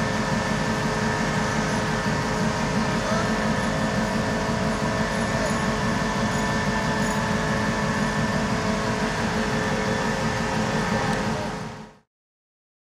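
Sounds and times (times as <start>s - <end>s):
diesel locomotive idling: 0.0s - 12.1s.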